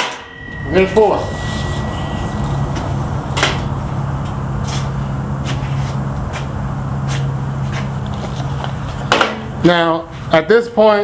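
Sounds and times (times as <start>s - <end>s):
low machine hum: 0.0s - 10.5s.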